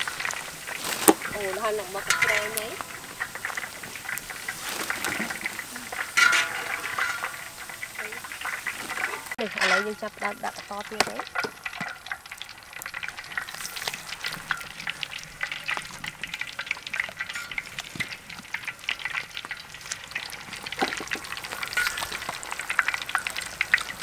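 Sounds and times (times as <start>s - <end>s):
food deep-frying in oil: 0.0s - 24.0s.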